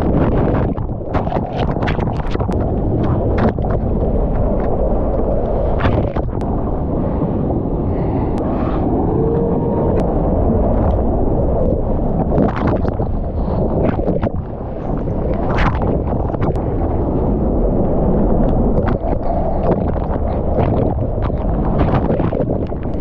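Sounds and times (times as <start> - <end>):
water splashing against camera: 0.0 - 6.8, 8.3 - 23.0
rushing water rumble: 0.0 - 23.0.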